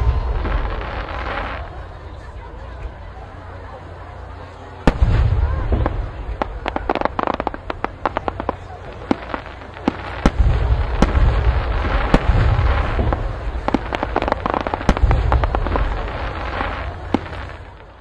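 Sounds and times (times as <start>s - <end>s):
sharp fireworks bangs: 0.0s - 2.0s, 4.8s - 18.0s
fireworks crackle and hiss: 0.0s - 3.0s, 4.8s - 18.0s
deep rumble: 0.0s - 3.2s, 4.9s - 18.0s.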